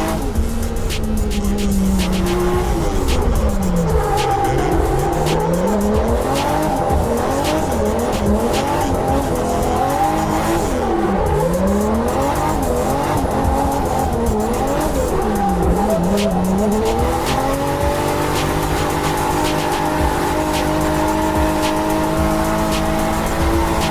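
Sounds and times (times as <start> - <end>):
car engine revving: 0.0 - 23.9
tyre noise: 0.0 - 23.9.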